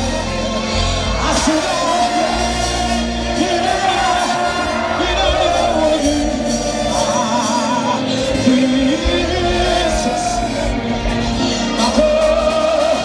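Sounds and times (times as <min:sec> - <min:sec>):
band playing: 0:00.0 - 0:13.0
voices singing gospel: 0:00.0 - 0:13.0.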